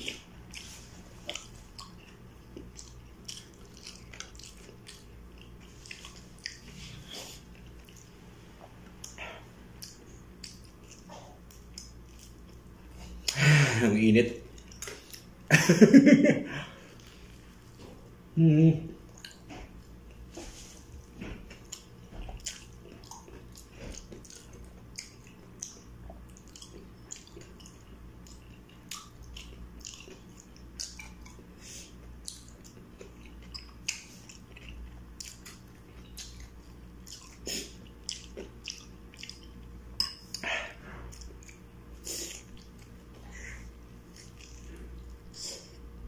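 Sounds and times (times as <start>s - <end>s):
chewing with wet mouth clicks: 0.0s - 13.4s, 14.5s - 15.3s, 19.0s - 20.2s, 21.1s - 45.8s.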